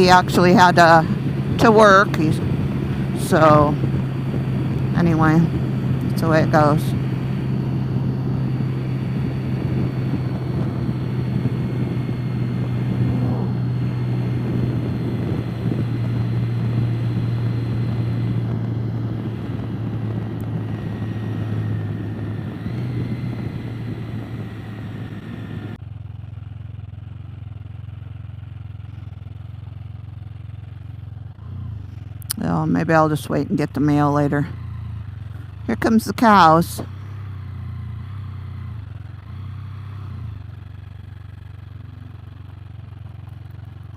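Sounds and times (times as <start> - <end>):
motorcycle engine hum: 0.0 - 43.9
wind and road noise: 0.0 - 43.9.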